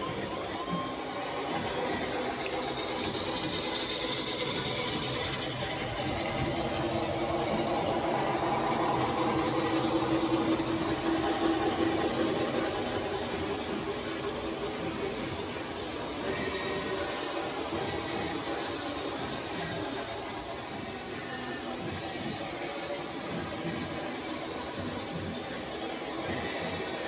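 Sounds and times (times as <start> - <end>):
model train wheels rumbling on rail: 0.0 - 27.0
motor hum: 0.0 - 27.0.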